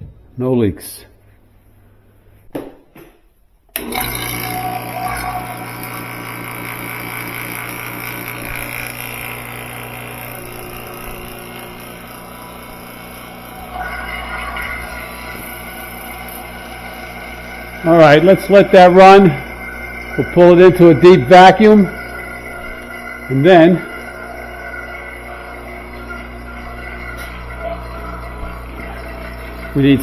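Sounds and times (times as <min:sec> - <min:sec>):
electric vacuum pump running: 0:03.7 - 0:30.0.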